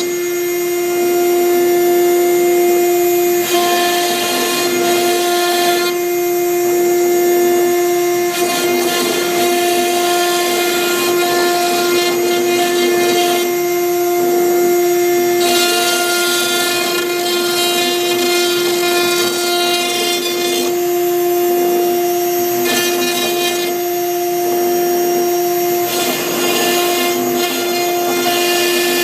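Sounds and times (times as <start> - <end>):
router spindle whining: 0.0 - 29.0.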